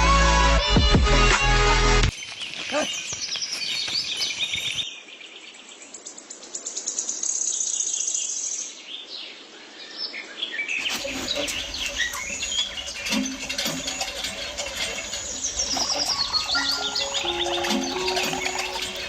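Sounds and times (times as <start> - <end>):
small birds chirping: 2.1 - 9.1, 9.9 - 19.0.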